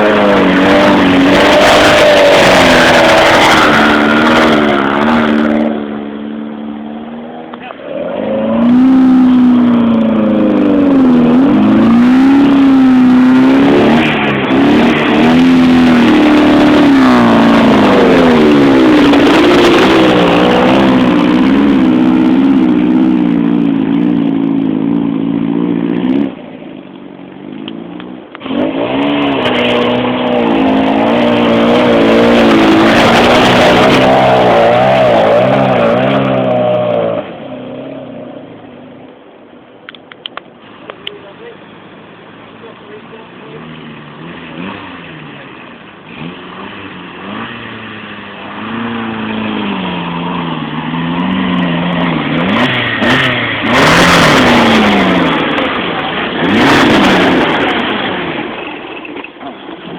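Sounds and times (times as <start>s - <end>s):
car engine revving hard: 0.0s - 26.4s, 28.2s - 38.3s, 43.1s - 59.0s.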